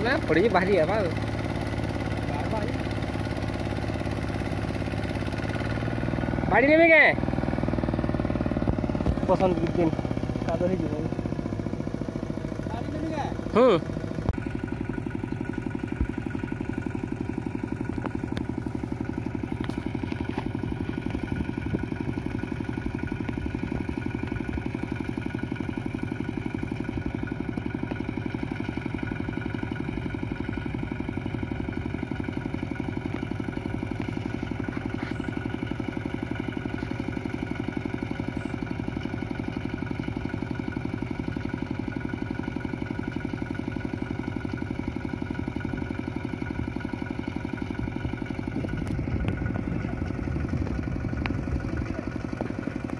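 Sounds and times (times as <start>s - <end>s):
diesel engine chugging: 0.0s - 52.9s.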